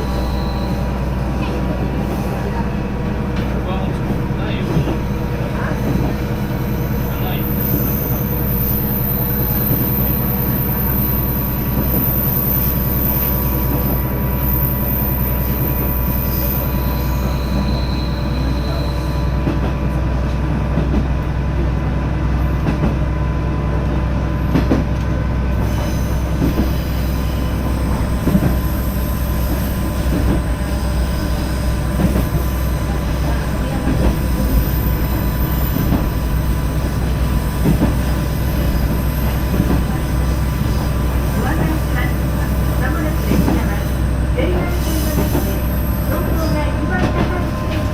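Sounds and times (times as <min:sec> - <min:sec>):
train interior drone: 0:00.0 - 0:47.9.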